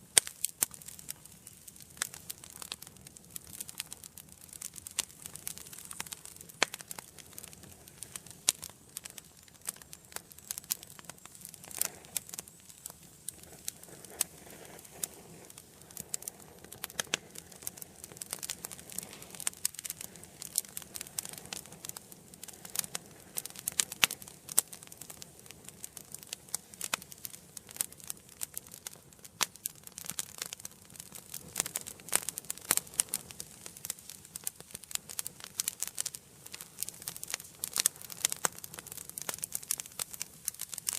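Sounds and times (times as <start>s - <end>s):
soft steady hiss: 0.0s - 40.9s
wood fire crackling: 0.0s - 40.9s.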